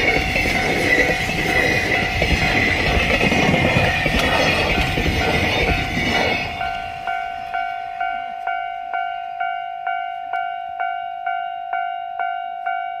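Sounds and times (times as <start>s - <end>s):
level-crossing warning bell: 0.0s - 13.0s.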